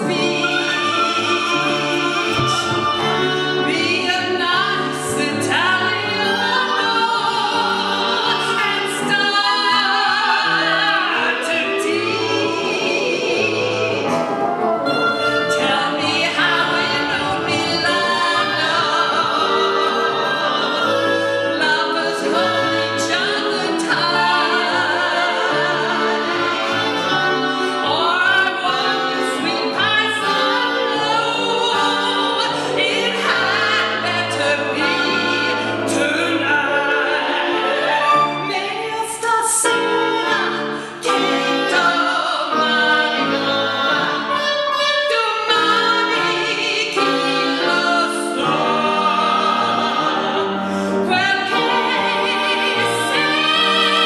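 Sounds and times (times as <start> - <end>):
woman singing with vibrato: 0.0 - 50.4, 51.0 - 54.0
woodwind ensemble: 0.0 - 54.0.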